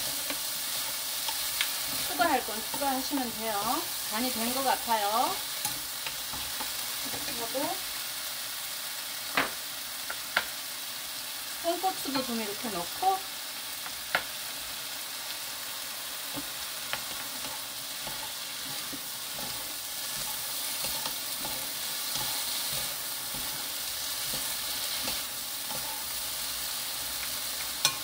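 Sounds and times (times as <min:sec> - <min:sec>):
squash sizzling in oil: 0:00.0 - 0:28.0.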